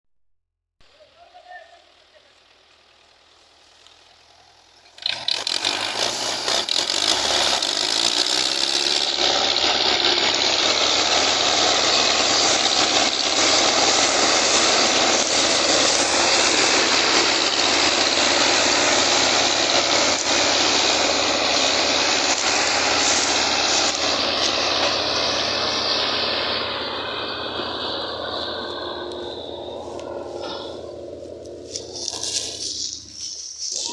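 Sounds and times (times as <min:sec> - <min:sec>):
tractor diesel engines under load: 0:00.8 - 0:33.9.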